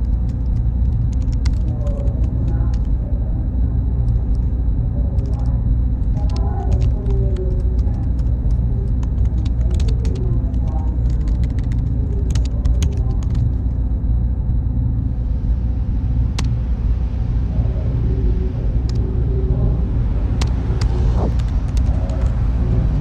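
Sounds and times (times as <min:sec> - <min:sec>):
faint hum: 0:00.0 - 0:23.0
low rumbling: 0:00.0 - 0:23.0.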